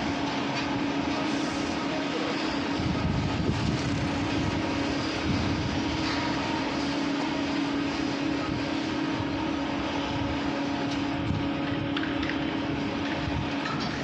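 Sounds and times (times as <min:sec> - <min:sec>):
construction machinery engine drone: 0:00.0 - 0:14.0.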